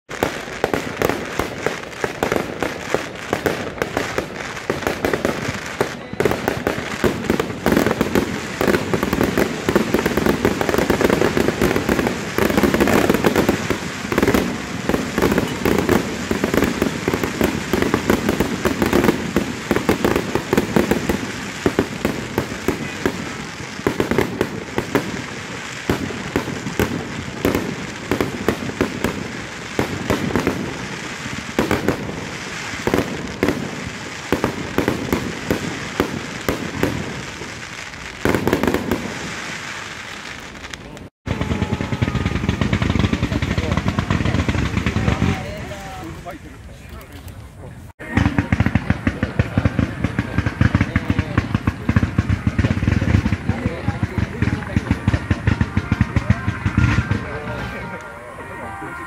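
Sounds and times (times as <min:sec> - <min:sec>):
fireworks bangs and crackling: 0:00.1 - 0:59.0.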